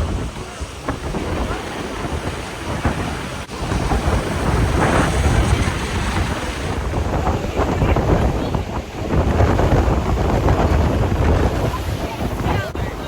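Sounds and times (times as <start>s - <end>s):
waterfall roaring: 0.0s - 13.0s
wind buffeting microphone: 0.0s - 13.0s.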